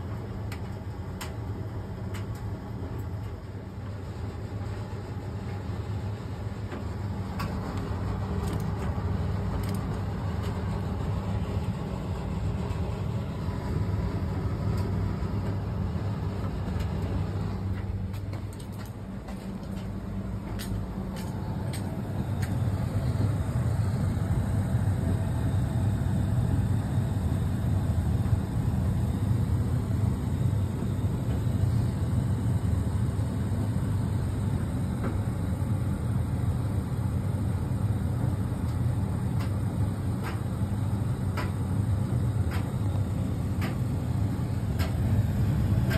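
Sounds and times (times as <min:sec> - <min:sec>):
clothes dryer humming: 0:00.0 - 0:45.9.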